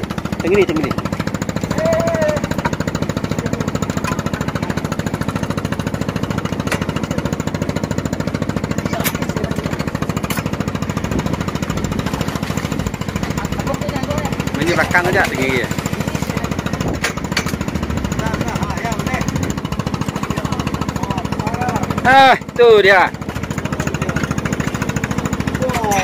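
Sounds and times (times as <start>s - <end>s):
boat engine knocking: 0.0s - 26.0s.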